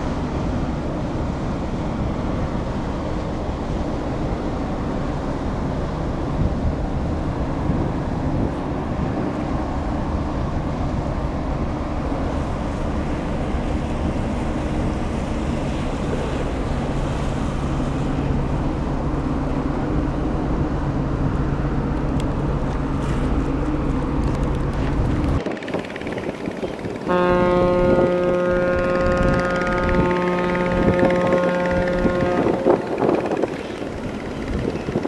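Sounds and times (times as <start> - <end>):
ship engine drone: 0.0 - 35.0
wind noise on microphone: 4.8 - 19.0, 20.0 - 35.0.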